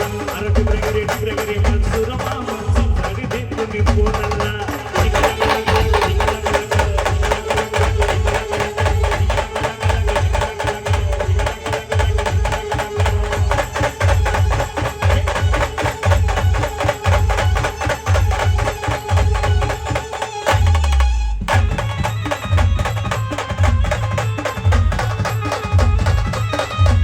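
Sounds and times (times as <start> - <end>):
heavy drum beat: 0.0 - 27.0
instrumental dance music: 0.0 - 27.0.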